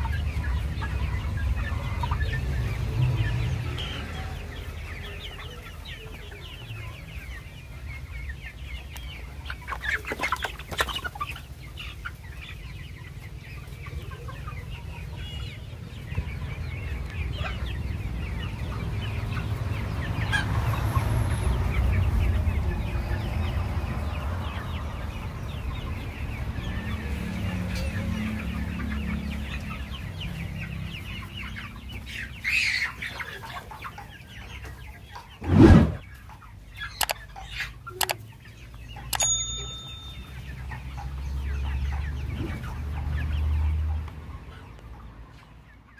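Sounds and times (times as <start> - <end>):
chickens clucking and peeping: 0.0 - 45.9.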